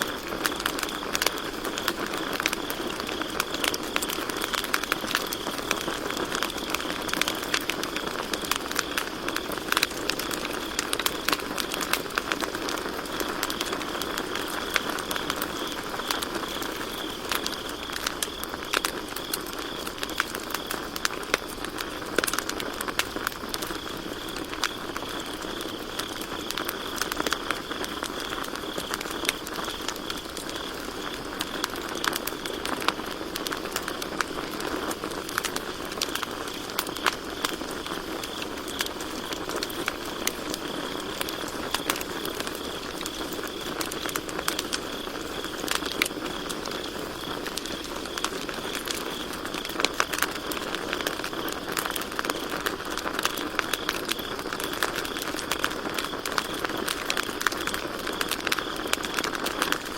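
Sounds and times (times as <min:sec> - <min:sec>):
campfire crackling and popping: 0:00.0 - 0:59.9
crickets chirping: 0:00.0 - 0:59.9.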